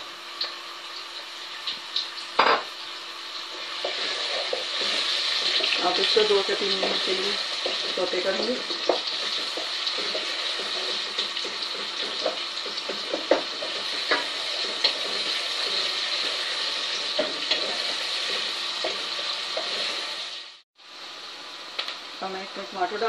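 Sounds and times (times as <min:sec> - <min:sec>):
onion sizzling in hot oil: 0:00.0 - 0:23.0.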